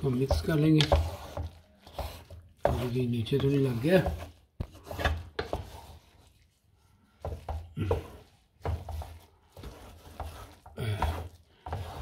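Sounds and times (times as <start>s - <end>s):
spoon scraping a pan: 0.0s - 6.3s, 7.2s - 12.0s.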